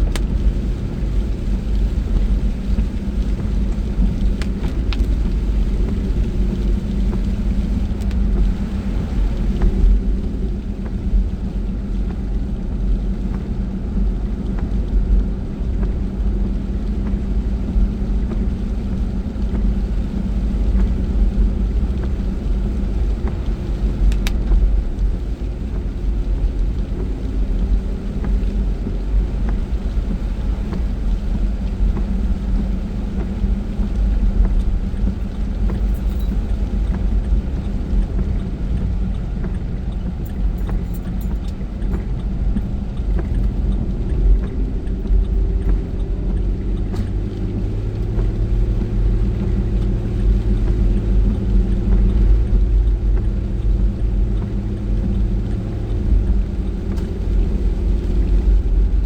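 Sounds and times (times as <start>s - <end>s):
car engine running: 0.0s - 59.0s
road rumble: 0.0s - 59.0s.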